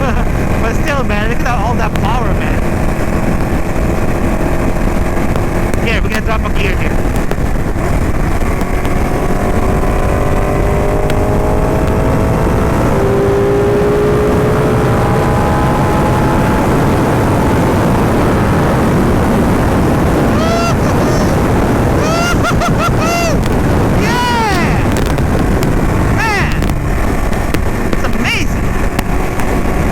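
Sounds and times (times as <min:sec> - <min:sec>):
motorcycle engine accelerating: 0:00.0 - 0:29.9
wind rush: 0:00.0 - 0:29.9.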